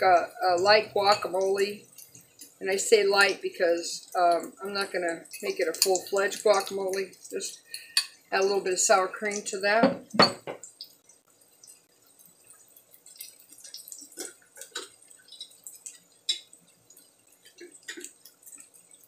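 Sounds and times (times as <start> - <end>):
onions frying in oil: 0.0 - 19.0.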